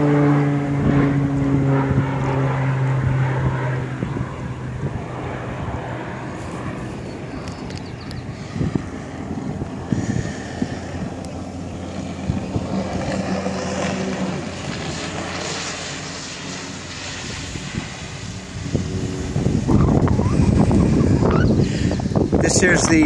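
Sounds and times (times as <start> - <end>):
jet ski engine: 0.0 - 23.0
propeller plane engine drone: 0.0 - 23.0
rough rushing noise: 0.0 - 23.0.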